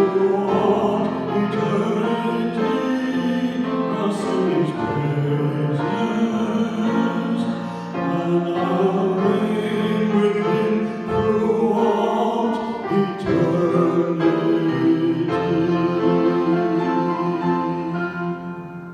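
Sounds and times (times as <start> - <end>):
musical accompaniment: 0.0 - 18.9
people singing a hymn: 0.0 - 18.9.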